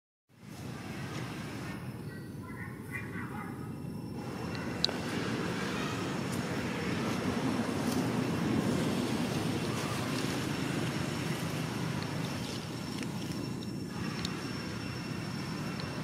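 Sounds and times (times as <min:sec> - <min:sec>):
low rushing background noise: 0:00.3 - 0:16.0.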